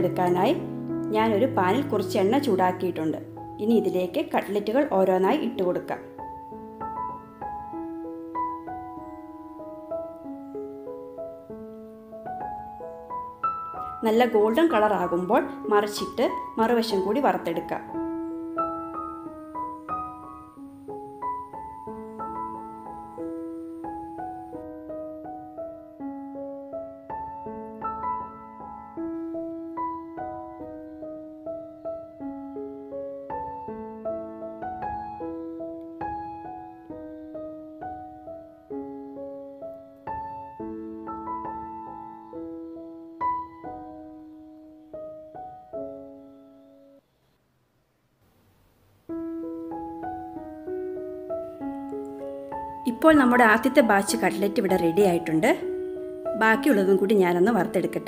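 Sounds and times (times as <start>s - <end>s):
slow piano melody: 0.0s - 47.3s, 49.0s - 58.0s.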